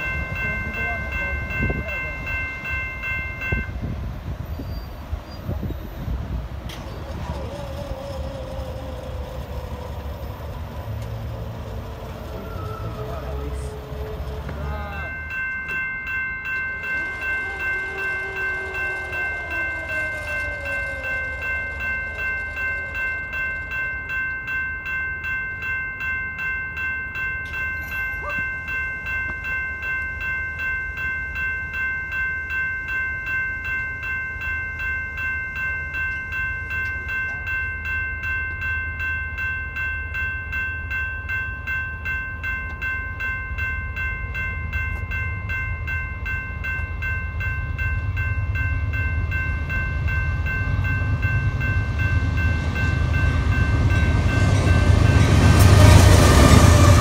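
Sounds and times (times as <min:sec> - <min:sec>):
crossing warning bell ringing: 0:00.0 - 0:57.0.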